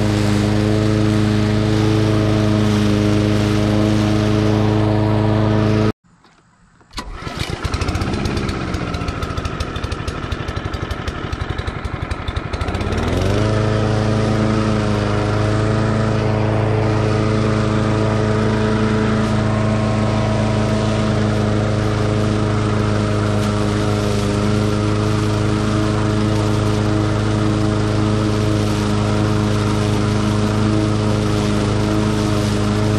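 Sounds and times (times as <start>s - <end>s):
mower engine cutting grass: 0.0s - 32.9s.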